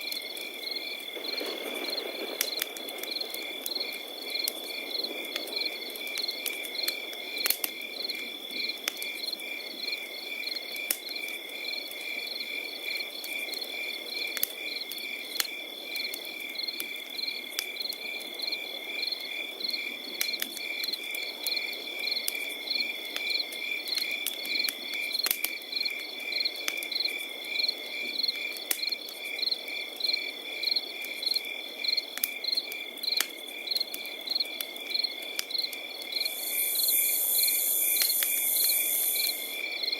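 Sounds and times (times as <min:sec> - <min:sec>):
campfire crackling and popping: 0:00.0 - 0:39.8
crickets chirping: 0:00.0 - 0:39.9.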